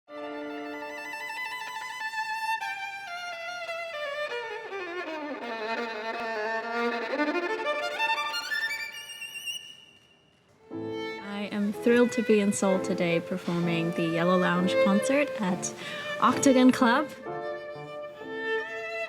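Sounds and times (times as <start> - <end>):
solo violin playing: 0.1 - 19.0.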